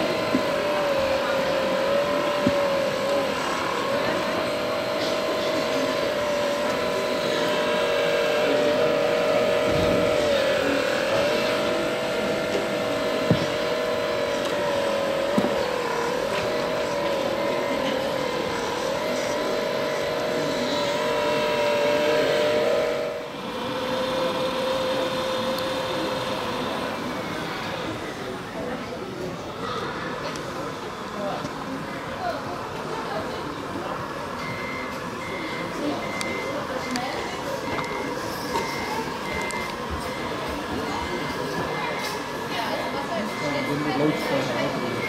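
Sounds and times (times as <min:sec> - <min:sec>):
electric hydraulic pump whining: 0:00.0 - 0:45.0.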